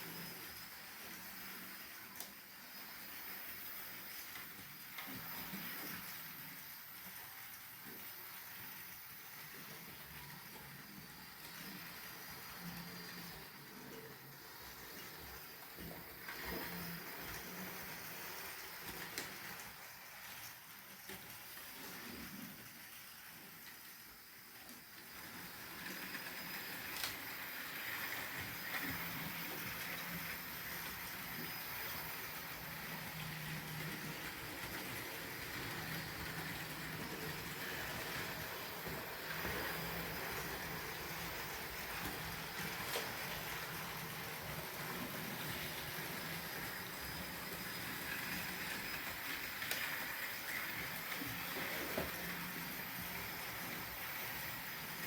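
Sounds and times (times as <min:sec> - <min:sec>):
model train whirring: 0:00.0 - 0:55.0.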